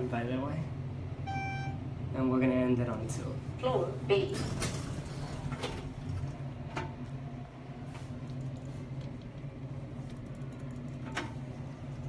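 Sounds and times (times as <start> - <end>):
elevator low hum: 0.0 - 12.0.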